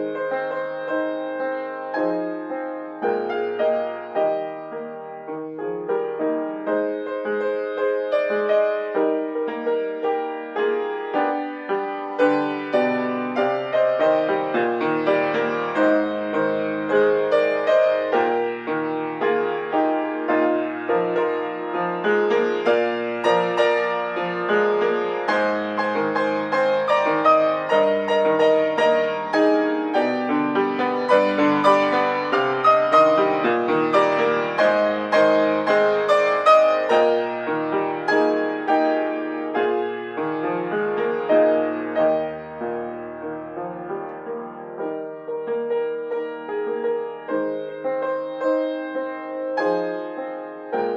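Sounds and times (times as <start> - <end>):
solo piano playing: 0.0 - 50.9.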